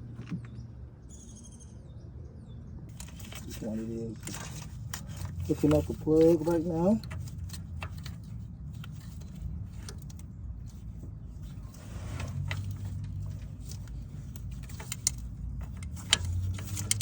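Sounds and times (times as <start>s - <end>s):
connector clicks and rattles: 2.9s - 17.0s.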